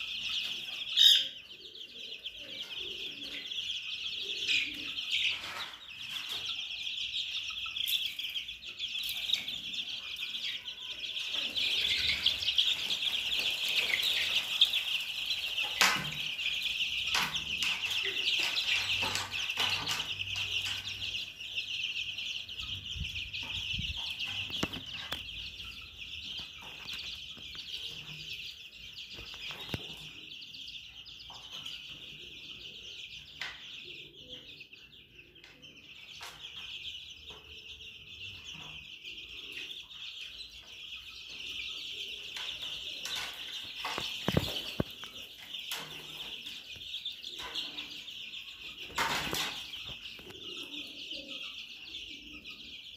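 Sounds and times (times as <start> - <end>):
chicks peeping: 0.0 - 52.9.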